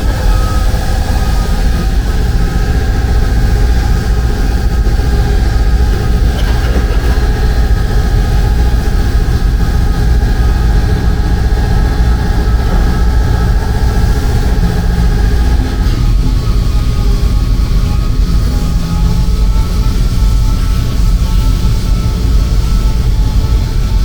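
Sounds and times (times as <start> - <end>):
machine low rumble: 0.0 - 24.0
machine whine: 0.0 - 24.0.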